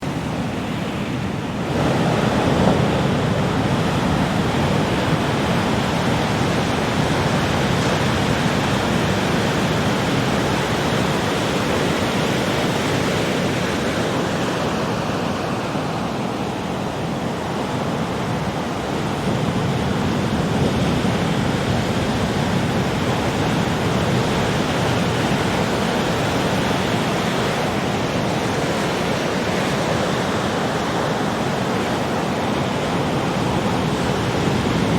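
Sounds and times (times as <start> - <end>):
sea waves breaking on beach: 0.0 - 34.9.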